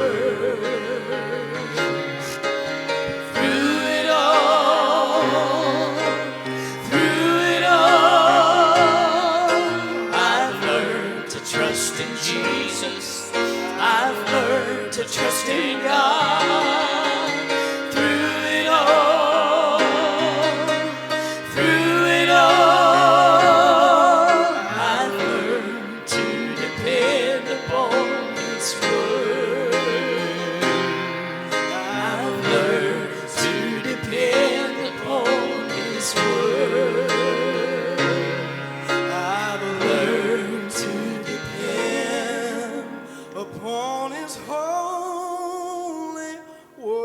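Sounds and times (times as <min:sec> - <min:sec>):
gospel singing with vibrato: 0:00.0 - 0:47.0.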